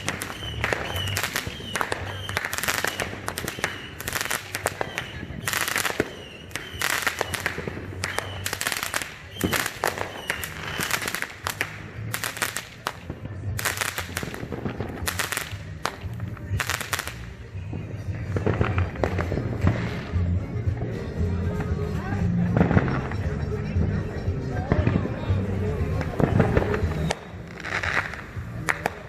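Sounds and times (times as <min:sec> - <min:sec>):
fireworks cracks and bangs: 0:00.0 - 0:23.8, 0:24.6 - 0:29.0.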